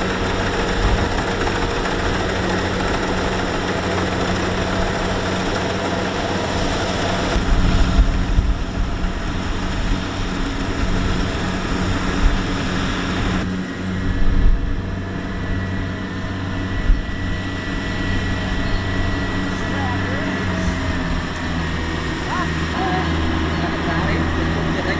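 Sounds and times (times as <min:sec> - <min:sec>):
diesel engine humming: 0:00.0 - 0:24.9.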